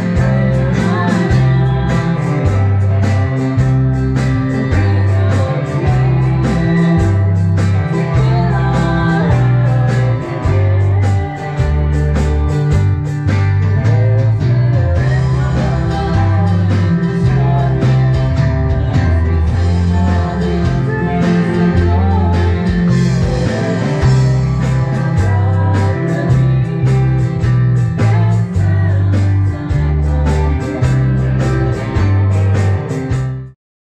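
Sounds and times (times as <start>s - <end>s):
woman singing: 0.0s - 3.6s, 4.4s - 12.8s, 13.6s - 32.0s
drum kit with cymbals: 0.0s - 33.5s
electric bass: 0.0s - 33.6s
electric guitar: 0.0s - 33.6s.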